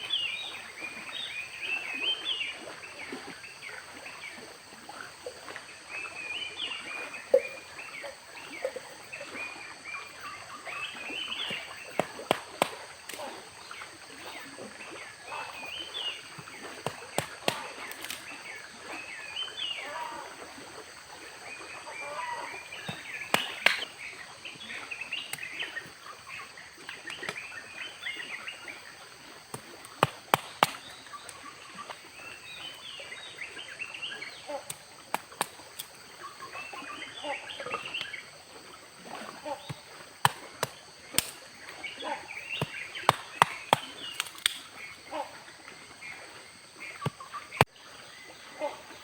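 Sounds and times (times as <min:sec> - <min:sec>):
forest birds chirping: 0:00.0 - 0:49.0.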